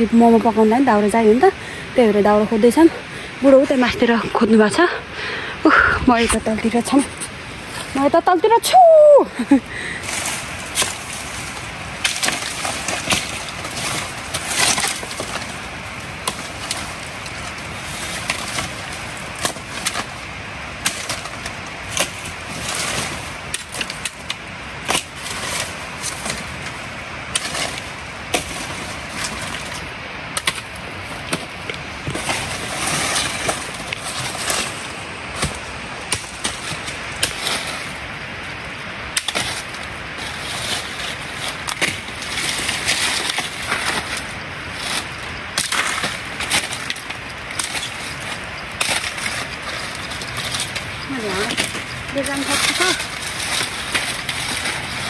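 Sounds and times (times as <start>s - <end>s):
dry sticks and leaves rustling: 0.0s - 55.0s
sticks snapping: 10.0s - 38.5s, 39.1s - 55.0s.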